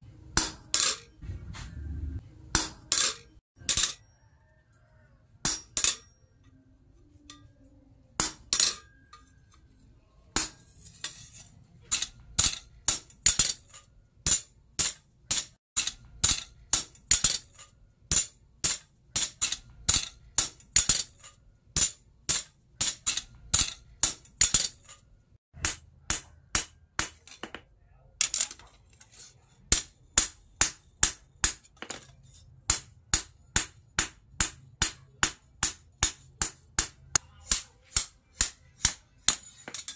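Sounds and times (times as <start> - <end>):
hammer striking steel on anvil: 0.3 - 1.2, 2.4 - 4.2, 5.4 - 9.6, 10.3 - 25.0, 25.6 - 28.6, 29.7 - 39.9.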